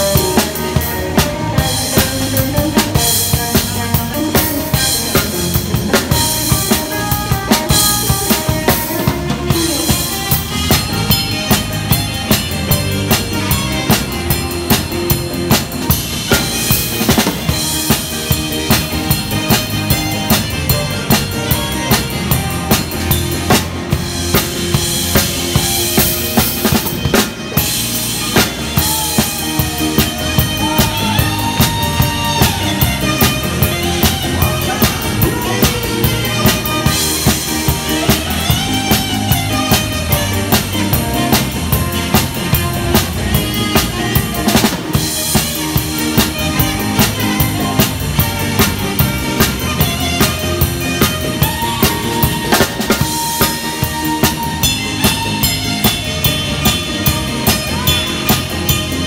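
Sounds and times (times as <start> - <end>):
cymbals: 0.0 - 59.0
live rock band playing: 0.0 - 59.0.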